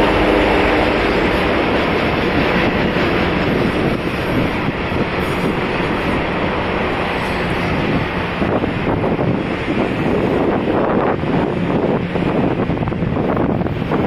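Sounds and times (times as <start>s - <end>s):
freight train wheels on rail: 0.0s - 14.0s.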